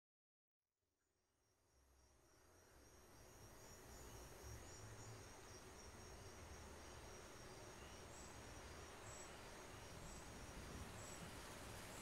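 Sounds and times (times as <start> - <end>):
insects chirping: 1.8 - 12.0.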